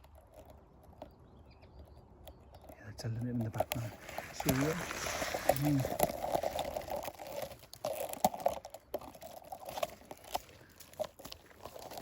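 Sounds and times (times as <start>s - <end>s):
branches crackling and snapping: 0.0s - 12.0s.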